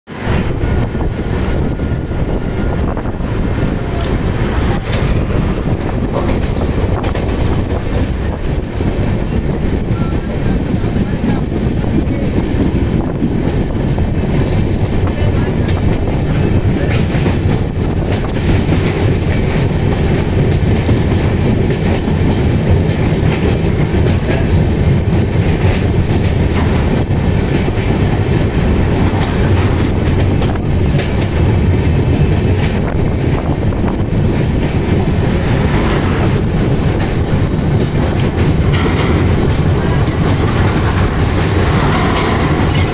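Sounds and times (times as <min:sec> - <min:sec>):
clickety-clack over rail joints: 0:00.1 - 0:42.9
train wheels rumbling on rails: 0:00.1 - 0:42.9.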